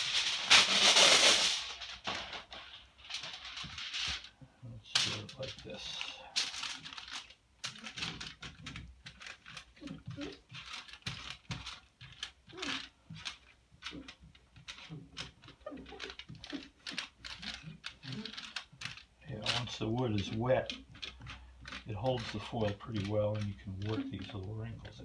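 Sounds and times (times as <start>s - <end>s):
aluminium foil crinkling: 0.0s - 25.0s.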